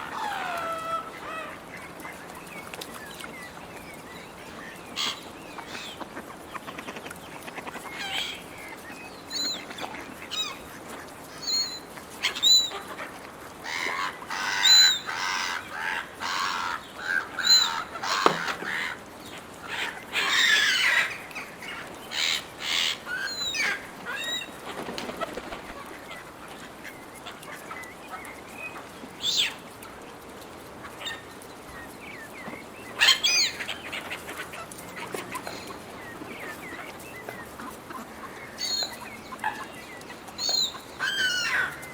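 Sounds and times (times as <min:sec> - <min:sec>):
gulls squabbling: 0:00.0 - 0:29.6, 0:32.8 - 0:41.9.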